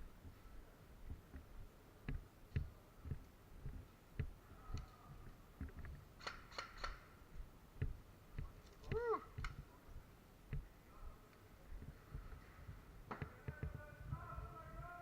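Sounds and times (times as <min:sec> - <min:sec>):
faint footsteps: 0:00.0 - 0:15.0.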